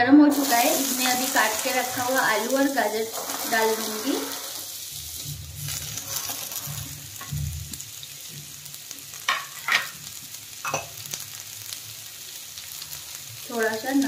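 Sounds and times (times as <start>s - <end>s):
vegetables sizzling in hot oil: 0.2s - 14.0s.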